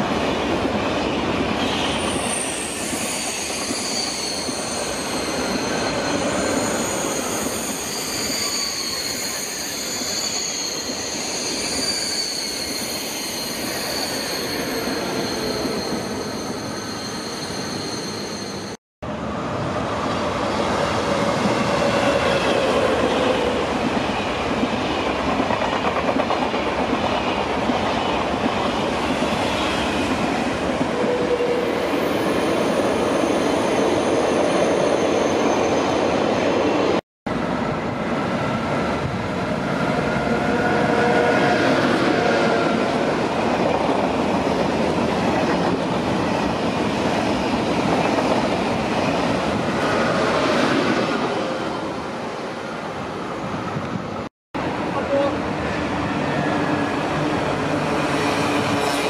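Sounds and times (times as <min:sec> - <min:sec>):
train passing close by: 0:00.0 - 0:59.0
train wheels on rails: 0:00.0 - 0:59.0.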